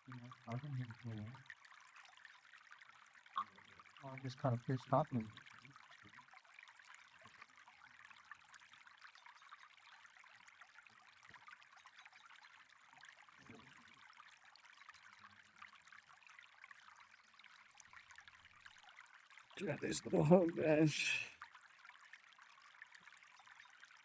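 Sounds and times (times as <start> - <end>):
flowing canal water: 0.0 - 24.0.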